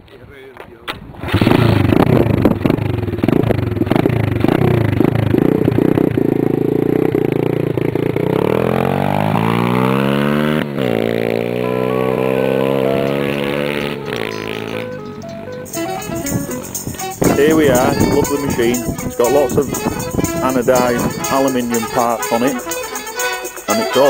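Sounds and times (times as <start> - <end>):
motorbike engine revving: 1.2 - 23.7.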